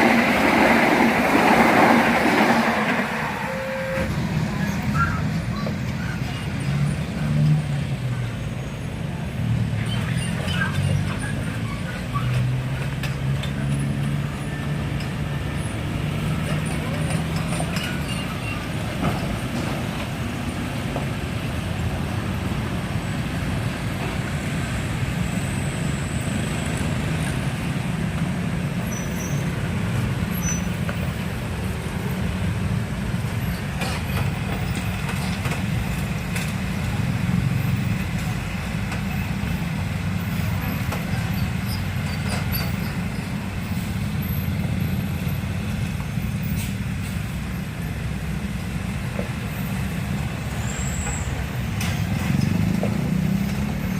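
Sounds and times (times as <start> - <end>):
diesel truck and bus engines: 0.0 - 53.9
heavy road traffic rumble: 0.0 - 53.9.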